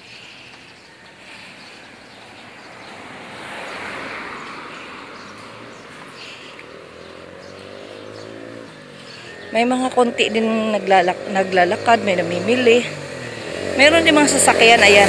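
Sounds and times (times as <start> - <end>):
road vehicle passing: 0.0 - 15.0
engine rising in pitch: 2.5 - 15.0.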